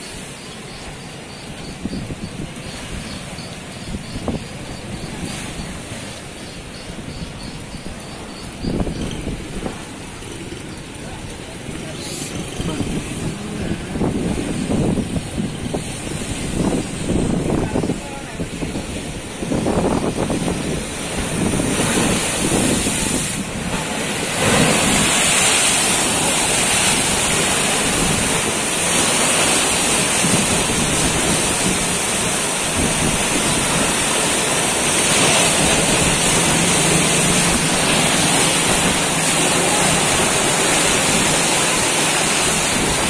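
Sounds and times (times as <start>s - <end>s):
muddy water rushing and churning: 0.0s - 43.0s.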